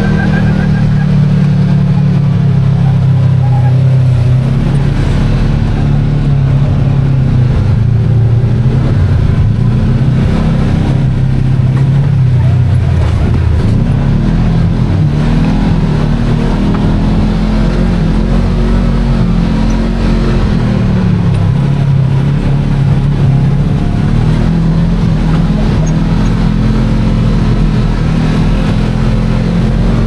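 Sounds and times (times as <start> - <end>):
utility vehicle engine running: 0.0 - 30.0
steady low rumble: 0.8 - 30.0.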